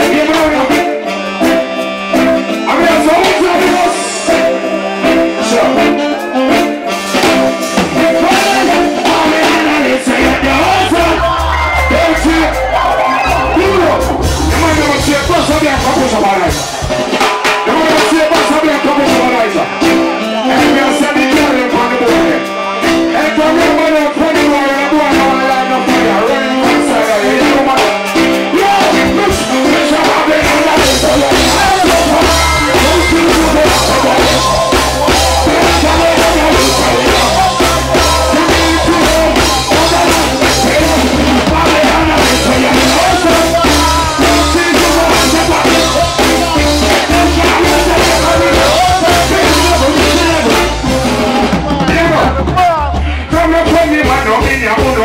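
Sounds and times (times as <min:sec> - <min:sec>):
man singing into a microphone: 0:00.0 - 0:01.8, 0:02.4 - 0:55.0
bass and drums: 0:00.0 - 0:55.0
reggae band playing: 0:00.0 - 0:55.0.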